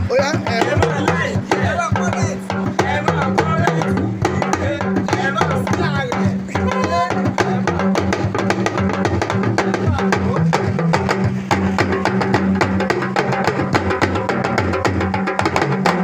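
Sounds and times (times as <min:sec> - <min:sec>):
rapid percussion: 0:00.0 - 0:16.0.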